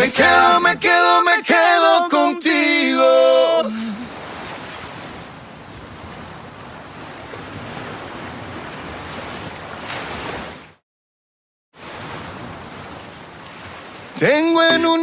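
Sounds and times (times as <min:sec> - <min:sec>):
ocean waves washing: 0:00.0 - 0:10.7, 0:11.8 - 0:15.0.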